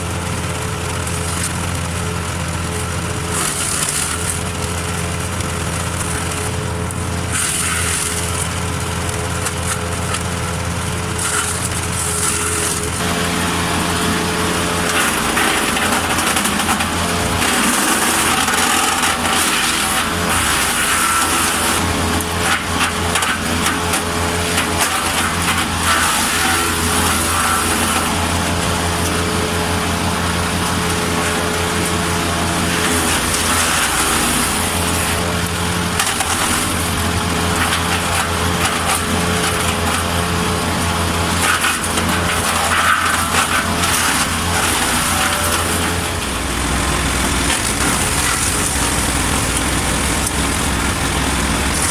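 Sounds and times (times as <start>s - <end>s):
wood chipper engine running: 0.0s - 51.9s
branches being chipped: 2.5s - 13.1s, 14.0s - 50.8s.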